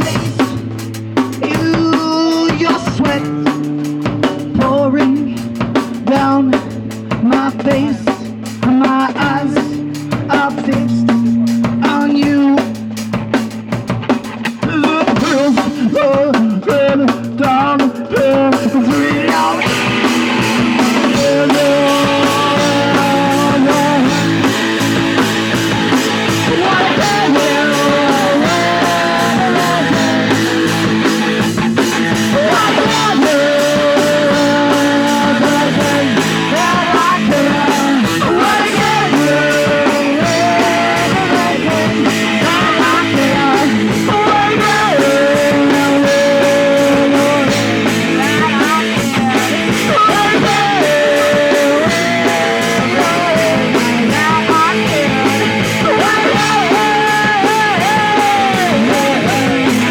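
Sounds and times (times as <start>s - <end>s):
fast drums: 0.0s - 59.9s
punk rock song: 0.0s - 59.9s
person singing: 1.3s - 3.7s, 4.4s - 12.9s, 14.6s - 59.9s.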